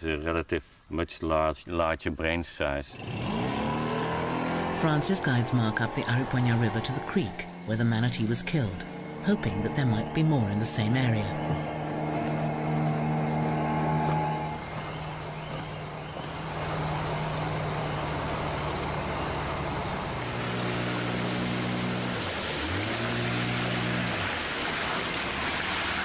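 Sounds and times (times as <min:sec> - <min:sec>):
outboard motor running: 0:03.0 - 0:26.0
water rushing past hull: 0:03.1 - 0:26.0.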